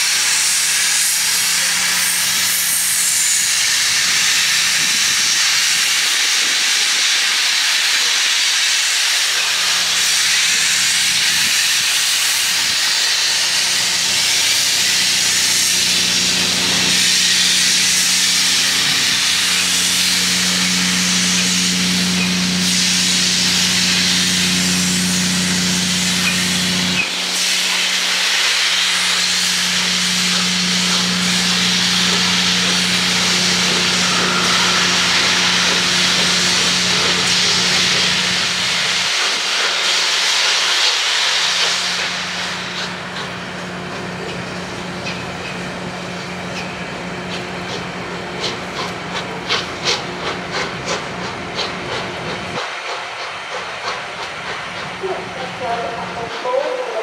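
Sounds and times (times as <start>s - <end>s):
train hissing: 0.0s - 57.0s.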